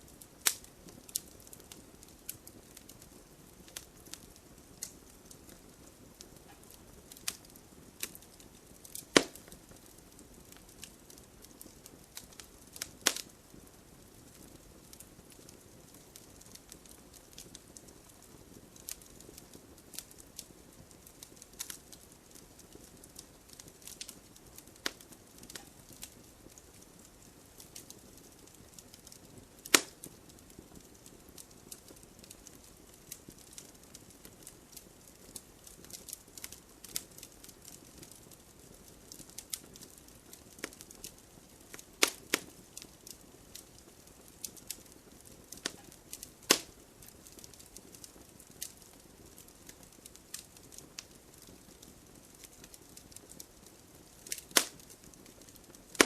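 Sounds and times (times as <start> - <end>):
sharp pops from fire: 0.0 - 56.0
wood fire crackling: 0.0 - 56.0.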